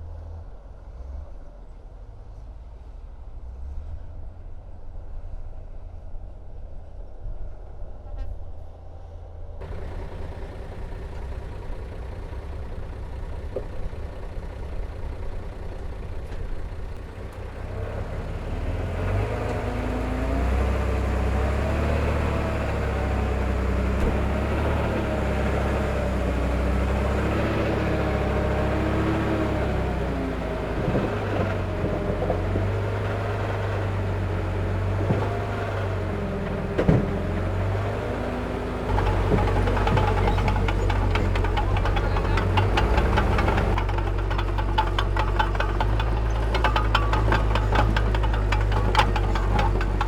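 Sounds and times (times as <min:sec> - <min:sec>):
heavy diesel machinery rumble: 0:09.6 - 0:50.0.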